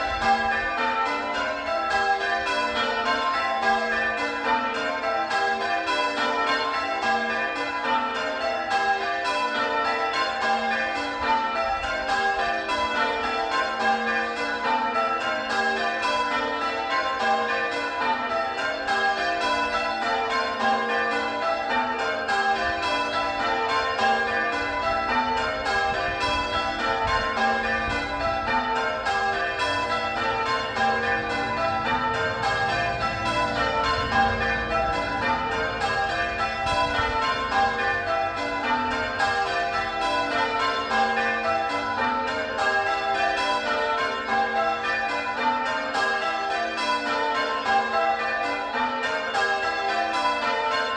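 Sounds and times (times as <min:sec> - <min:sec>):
church bells change ringing: 0:00.0 - 0:50.9.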